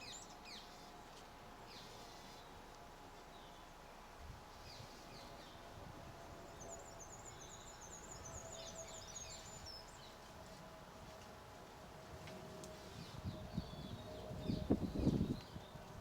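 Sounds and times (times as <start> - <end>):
faint steady hum: 0.0 - 16.0
songbird chirping: 0.0 - 16.0.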